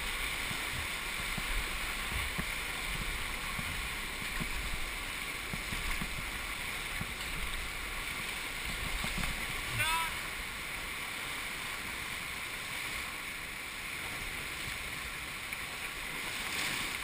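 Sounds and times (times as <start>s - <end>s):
river whitewater rushing: 0.0s - 17.0s.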